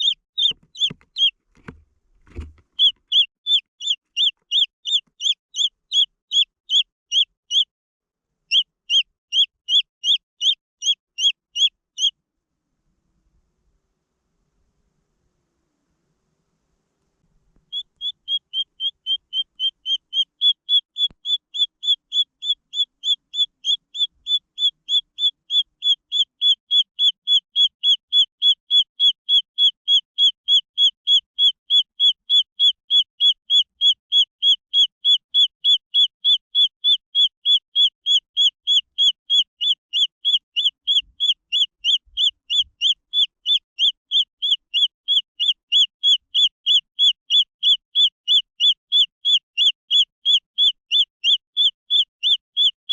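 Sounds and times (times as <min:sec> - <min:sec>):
chick peeping: 0:00.0 - 0:07.7, 0:08.5 - 0:12.1, 0:17.6 - 0:52.9.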